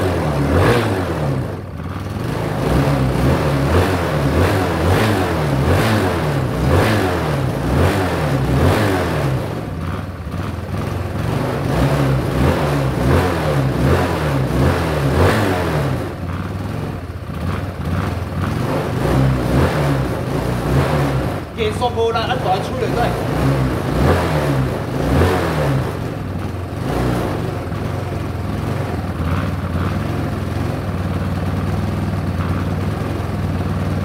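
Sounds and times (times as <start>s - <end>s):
scooter engine revving: 0.0s - 34.0s.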